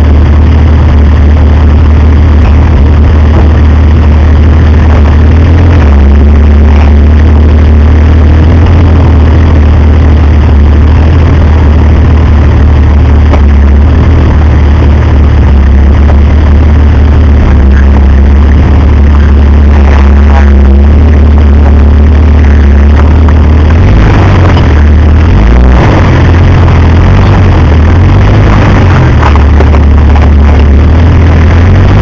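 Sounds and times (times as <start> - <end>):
vehicle engine running low: 0.0 - 32.0.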